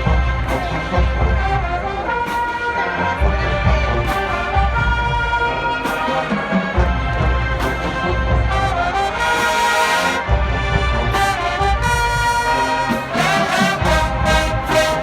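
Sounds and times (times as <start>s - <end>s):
marching band brass playing: 0.0s - 15.0s.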